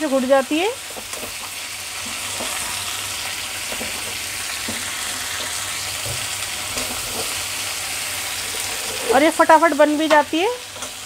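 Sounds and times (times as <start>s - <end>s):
beans sizzling in oil: 0.0s - 11.0s.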